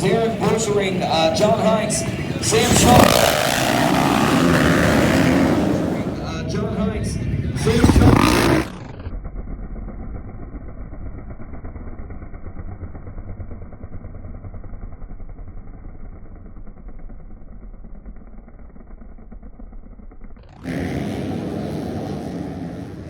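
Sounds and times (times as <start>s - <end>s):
muffled dirt bike engine running: 0.0s - 23.0s.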